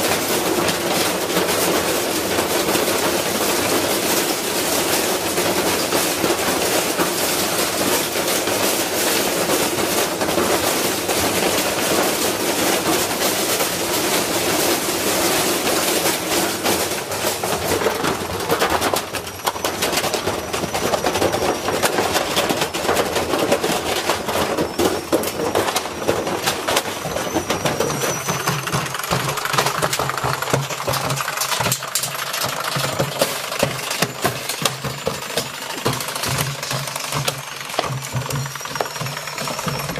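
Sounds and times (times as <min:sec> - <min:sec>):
washing machine banging and rattling: 0:00.0 - 0:39.9.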